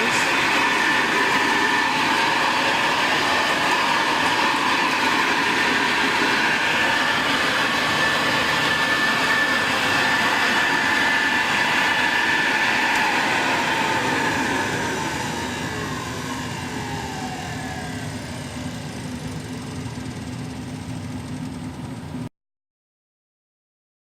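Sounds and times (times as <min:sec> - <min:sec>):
upright vacuum cleaner running: 0:00.0 - 0:22.2.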